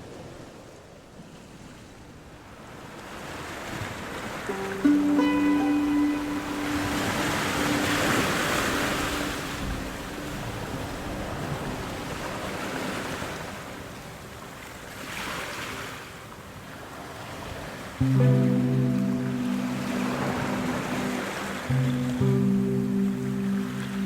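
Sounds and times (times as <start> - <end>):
sea waves washing on shore: 2.4 - 24.0.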